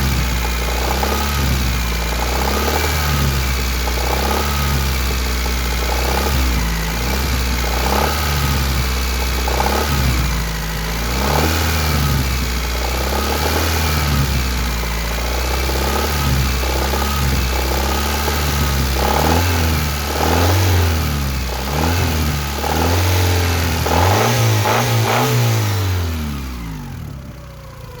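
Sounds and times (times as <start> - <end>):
car engine revving: 0.0 - 28.0
engine knocking: 0.0 - 28.0.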